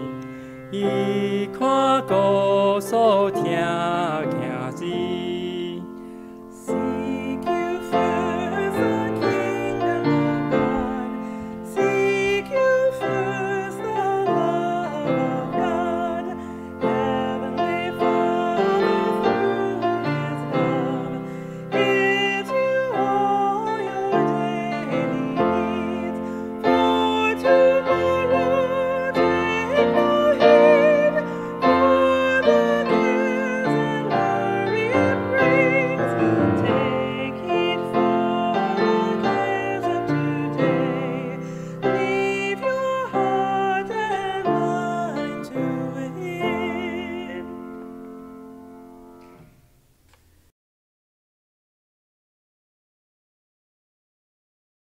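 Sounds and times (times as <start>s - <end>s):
woman singing a hymn: 0.0s - 47.9s
piano: 0.0s - 50.5s.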